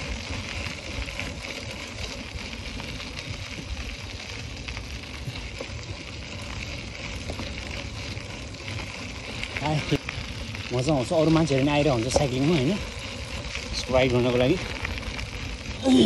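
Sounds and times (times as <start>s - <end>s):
bicycle tyres rolling on path: 0.0s - 16.0s.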